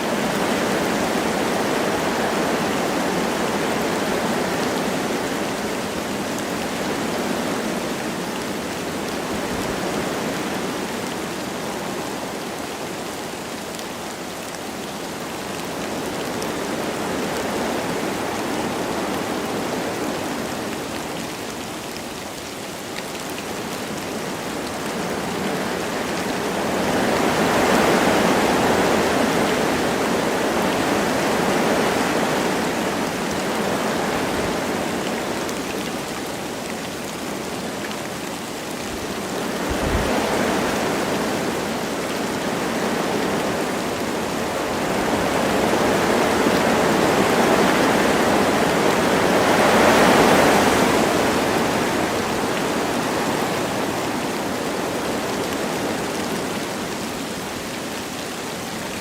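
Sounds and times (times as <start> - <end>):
light rain falling: 0.0 - 59.0
wind blowing through trees: 0.0 - 59.0.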